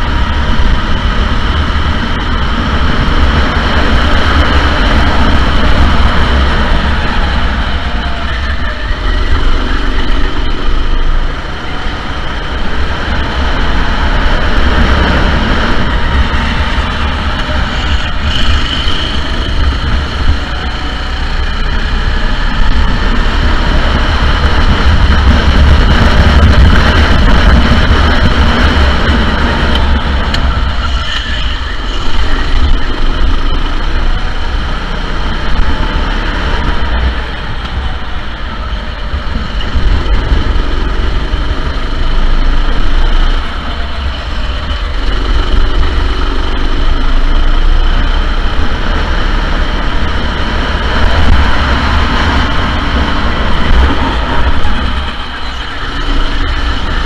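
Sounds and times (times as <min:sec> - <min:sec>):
go-kart engines racing: 0:00.0 - 0:57.0
steady low rumble: 0:00.0 - 0:57.0.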